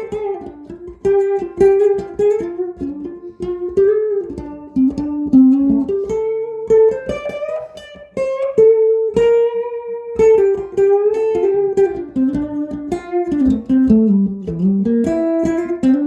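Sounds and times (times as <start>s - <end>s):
electric guitar single-note melody: 0.0s - 16.0s.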